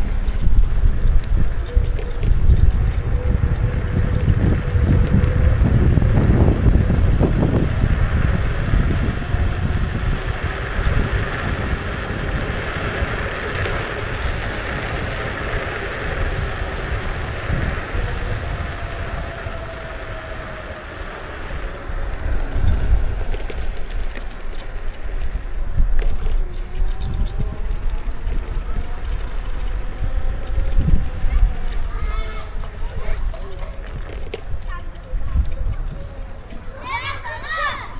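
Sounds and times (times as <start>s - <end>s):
road rumble: 0.0s - 37.9s
wind buffeting microphone: 0.0s - 37.9s.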